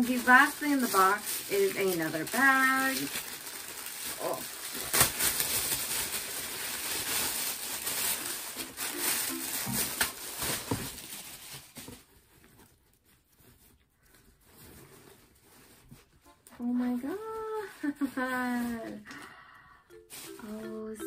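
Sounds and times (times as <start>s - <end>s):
plastic bag rustling and crinkling: 0.0s - 19.0s, 20.0s - 20.8s.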